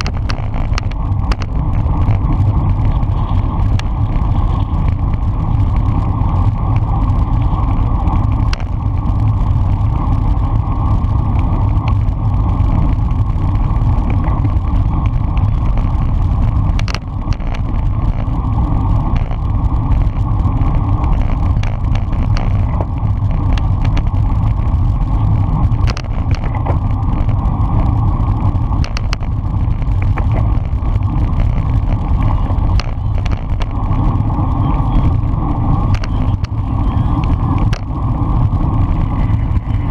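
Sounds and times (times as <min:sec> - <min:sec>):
bike clicks: 0:00.0 - 0:39.9
wind and road noise: 0:00.0 - 0:39.9.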